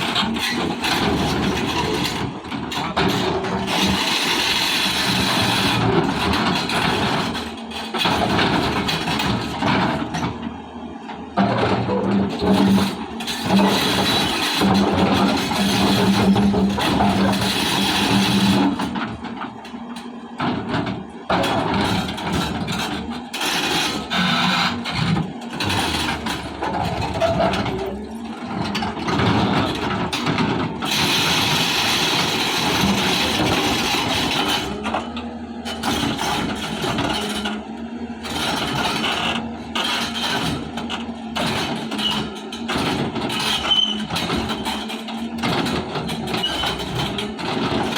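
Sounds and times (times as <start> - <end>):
excavator diesel engine under load: 0.0 - 47.9.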